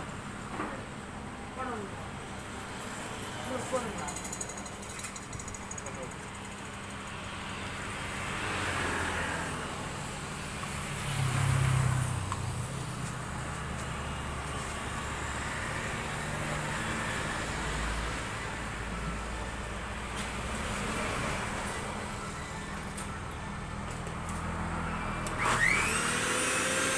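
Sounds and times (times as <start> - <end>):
steady low traffic hum: 0.0 - 26.9
vehicles passing: 0.0 - 26.9.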